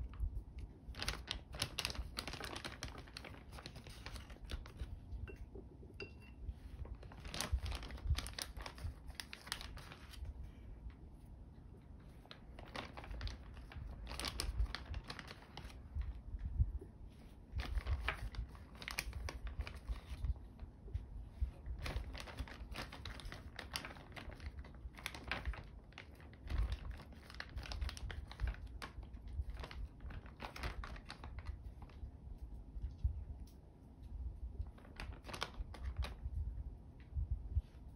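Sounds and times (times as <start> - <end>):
wet crinkly rustling of slices: 0.0 - 5.4, 6.5 - 37.9.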